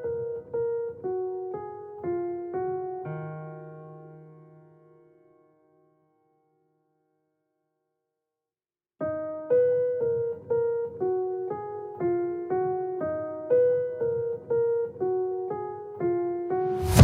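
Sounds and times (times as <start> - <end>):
piano chords: 0.0 - 6.1, 9.0 - 17.0.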